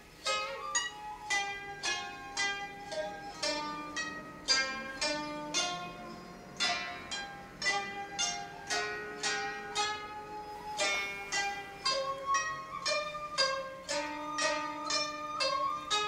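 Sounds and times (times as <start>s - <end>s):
koto plucked notes: 0.0s - 16.0s.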